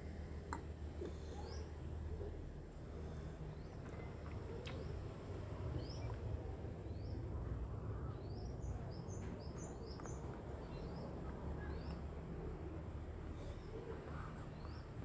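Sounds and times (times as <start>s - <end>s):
small birds chirping: 1.0s - 2.4s, 3.0s - 15.0s.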